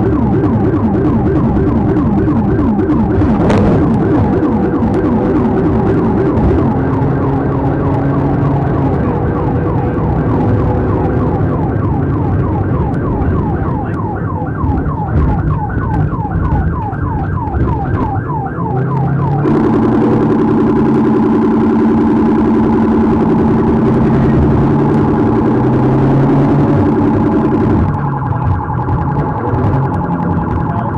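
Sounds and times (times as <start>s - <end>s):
low buzzing siren tone: 0.0s - 30.9s
police siren yelping: 0.0s - 30.9s
vehicle rumble: 0.0s - 30.9s.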